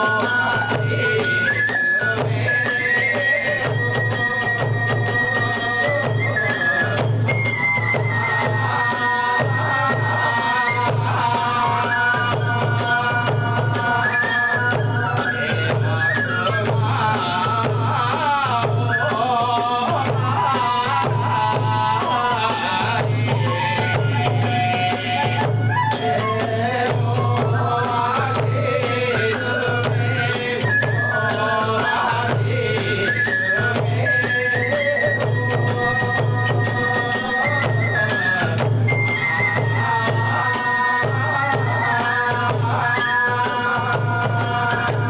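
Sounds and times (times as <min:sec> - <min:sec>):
bamboo flute melody: 0:00.0 - 0:45.0
pulsing drum beat: 0:00.0 - 0:45.0.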